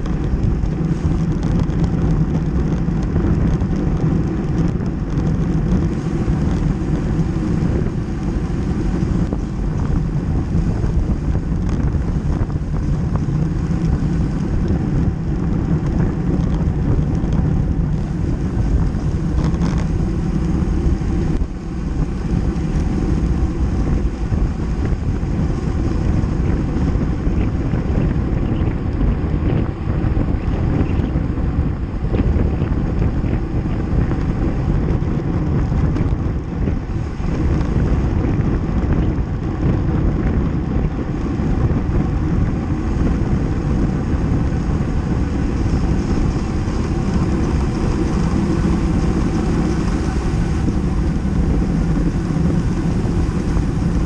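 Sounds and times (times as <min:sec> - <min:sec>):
wind rush over microphone: 0:00.0 - 0:54.0.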